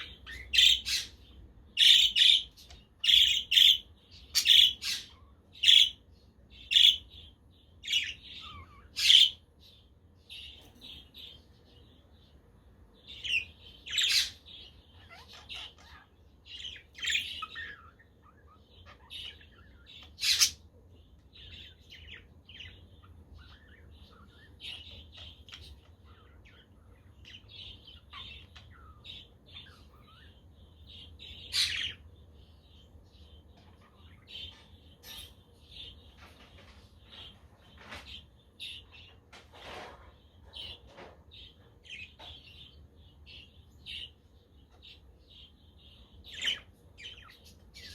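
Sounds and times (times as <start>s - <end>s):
budgerigars chirping and warbling: 0.0s - 47.9s.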